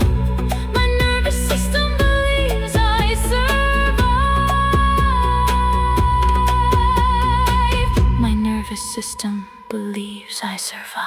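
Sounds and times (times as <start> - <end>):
slow drum beat: 0.0 - 9.0
sustained low chords: 0.0 - 9.4.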